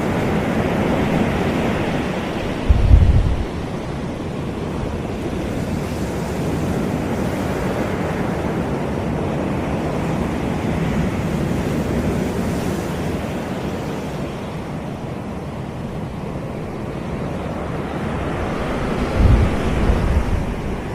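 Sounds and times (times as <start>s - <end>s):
surf washing onto beach: 0.0s - 20.9s.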